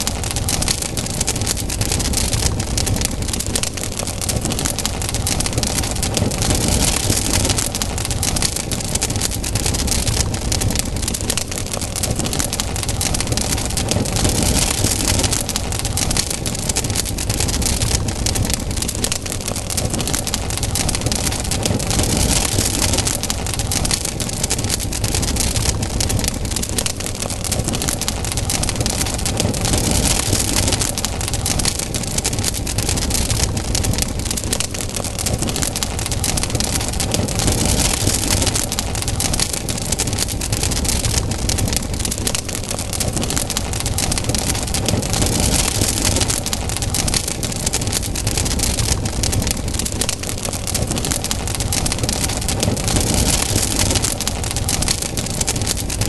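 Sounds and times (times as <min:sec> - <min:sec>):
campfire crackling and popping: 0:00.0 - 0:56.0
fire hiss: 0:00.0 - 0:56.0.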